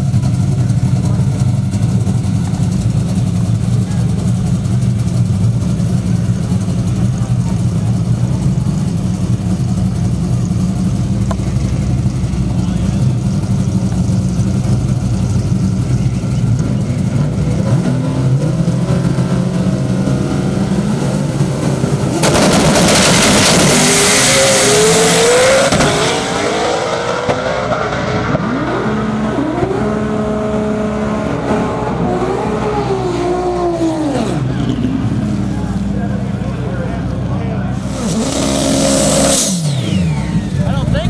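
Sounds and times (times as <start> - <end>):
drag car engines revving: 0.0 - 41.0.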